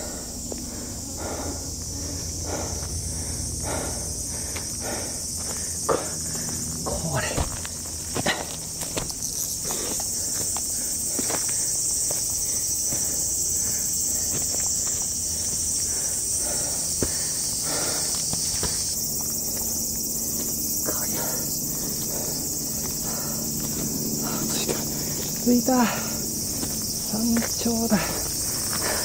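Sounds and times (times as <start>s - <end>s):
footsteps on dirt trail: 0.0s - 29.0s
high-pitched insect chorus: 0.0s - 29.0s.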